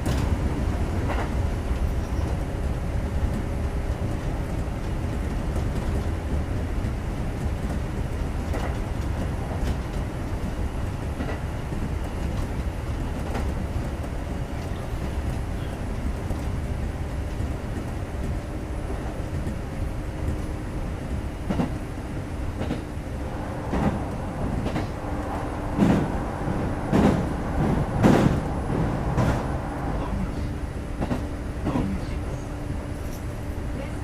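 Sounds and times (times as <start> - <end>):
train rumbling with low hum: 0.0 - 34.0.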